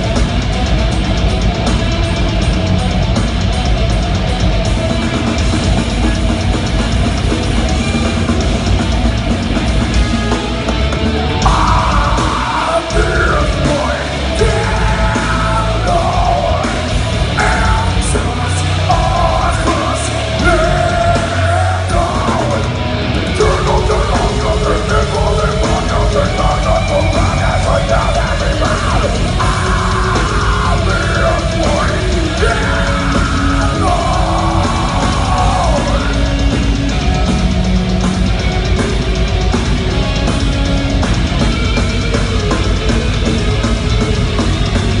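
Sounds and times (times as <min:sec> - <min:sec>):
bass guitar: 0:00.0 - 0:45.0
drum kit: 0:00.0 - 0:45.0
electric guitars: 0:00.0 - 0:45.0.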